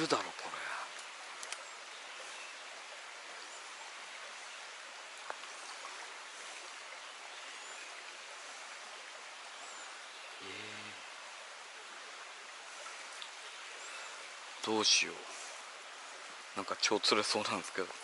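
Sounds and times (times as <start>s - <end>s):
stream running over rocks: 0.0s - 18.0s.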